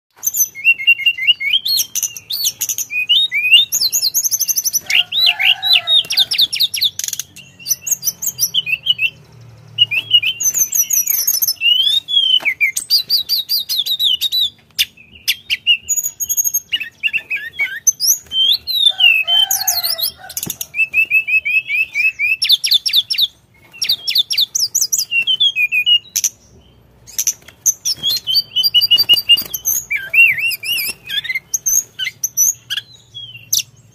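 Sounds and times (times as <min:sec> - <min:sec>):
flycatcher singing: 0:00.2 - 0:33.9.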